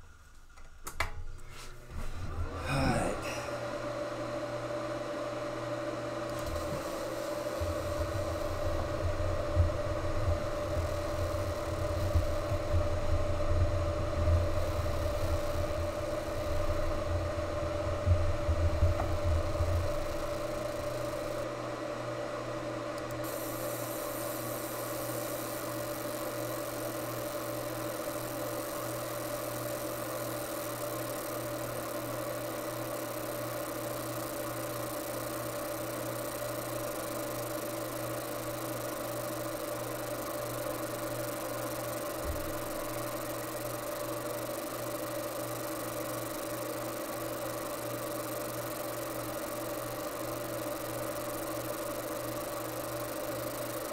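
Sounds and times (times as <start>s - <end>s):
laser engraver humming: 1.8s - 53.9s.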